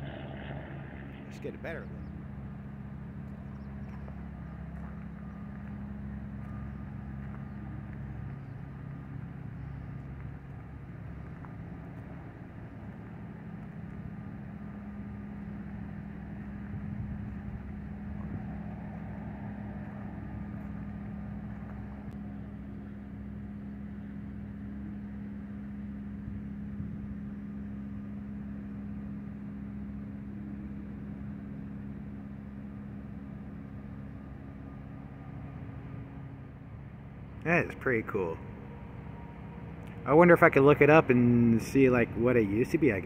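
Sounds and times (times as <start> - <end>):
idling machinery hum: 0.0 - 43.0.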